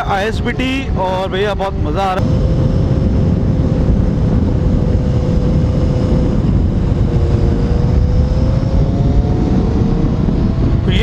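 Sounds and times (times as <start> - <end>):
faint motorcycle engine: 0.0 - 11.0
wind rumble on microphone: 0.0 - 11.0.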